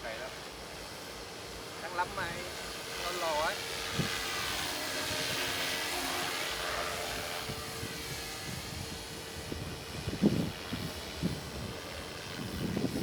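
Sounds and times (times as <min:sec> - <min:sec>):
model airplane motor whining: 0:00.0 - 0:13.0.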